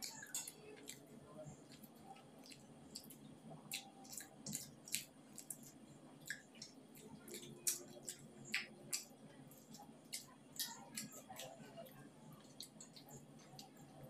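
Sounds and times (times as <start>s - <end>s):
mouth chewing and smacking: 0.0s - 14.0s.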